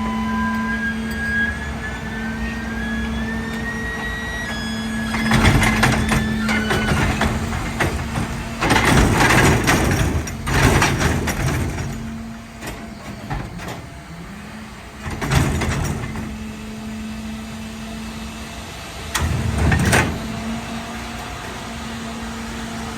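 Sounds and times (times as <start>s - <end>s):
garbage truck engine hum: 0.0s - 22.9s.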